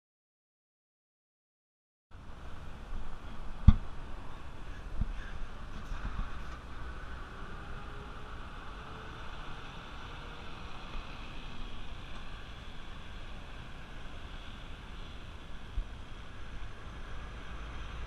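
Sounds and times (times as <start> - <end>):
wind rumbling on microphone: 2.2 - 18.0.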